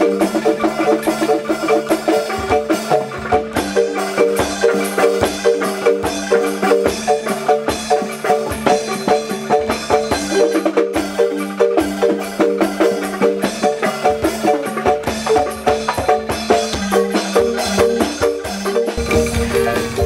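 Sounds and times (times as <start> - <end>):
bamboo xylophone melody: 0.0 - 20.0
drum beats: 0.0 - 20.0.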